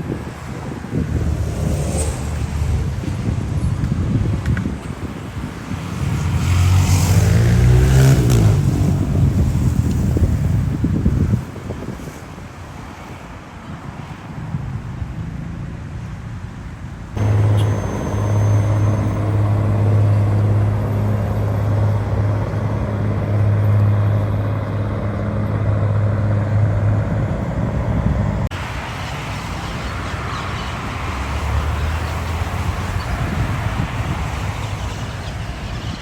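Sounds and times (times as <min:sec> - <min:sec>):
diesel train engine drone: 0:00.0 - 0:15.2, 0:15.9 - 0:36.0
passing train rumble: 0:00.0 - 0:36.0.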